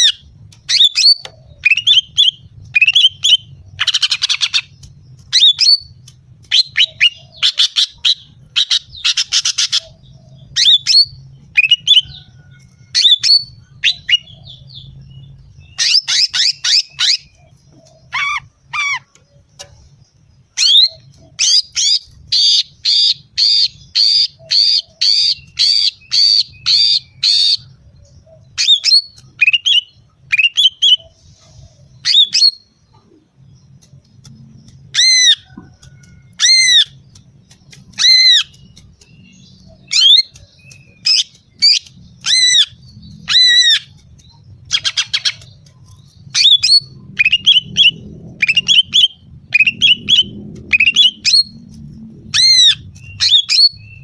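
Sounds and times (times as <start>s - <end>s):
bird calling with sharp notes: 0.0s - 51.7s
bird buzzy trills: 0.0s - 54.0s.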